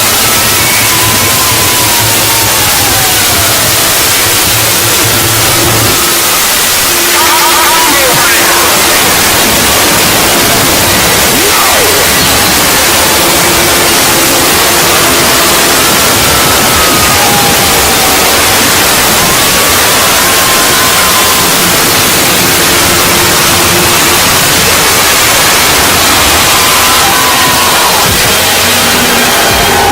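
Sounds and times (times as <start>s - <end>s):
static hiss: 0.0s - 29.9s.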